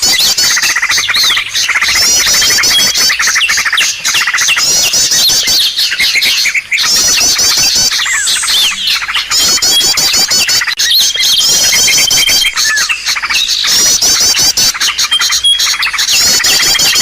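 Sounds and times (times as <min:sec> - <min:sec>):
rattling bird trills: 0:00.0 - 0:17.0
rising bird chirps: 0:00.0 - 0:17.0.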